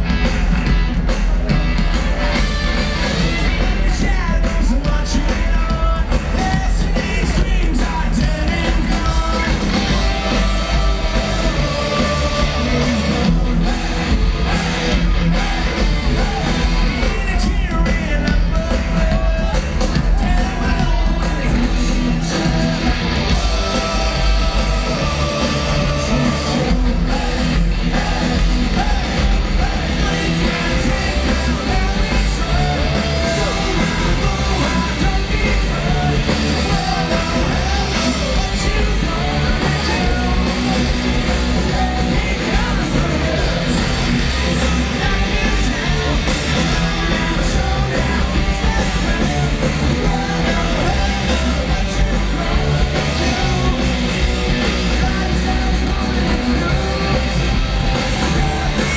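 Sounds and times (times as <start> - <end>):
punk rock band playing live: 0.0 - 58.9
lead vocals singing: 2.7 - 58.9.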